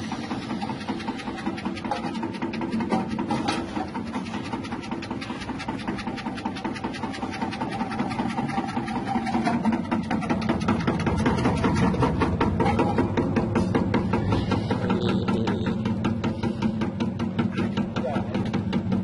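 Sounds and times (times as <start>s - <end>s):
rapid mechanical ticking: 0.0s - 19.0s
slicing machine motor running: 0.0s - 19.0s.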